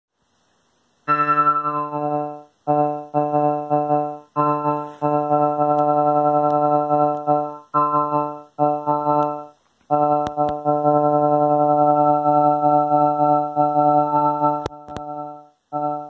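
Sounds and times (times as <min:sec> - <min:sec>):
synthesizer pulsing low note: 0:01.1 - 0:16.0.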